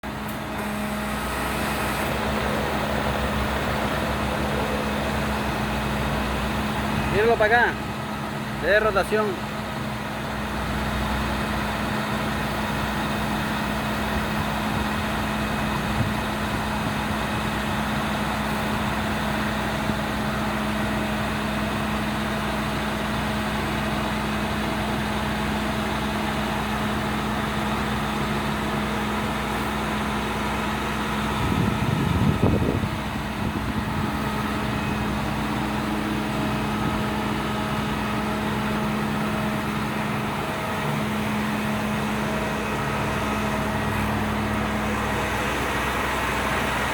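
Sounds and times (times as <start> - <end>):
truck engine humming: 0.0 - 46.9.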